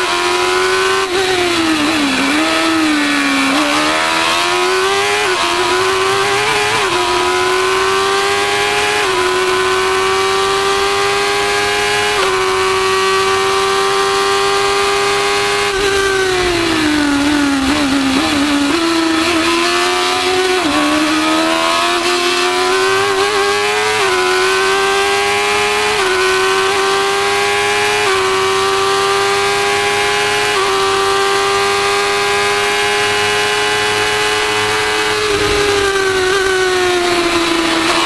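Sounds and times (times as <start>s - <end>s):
race car engine at full throttle: 0.0s - 38.0s.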